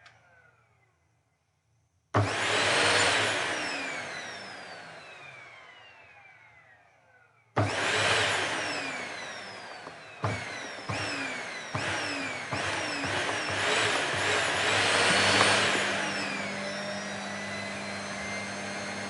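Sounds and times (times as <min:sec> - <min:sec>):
vacuum cleaner motor whining: 0:02.2 - 0:19.0.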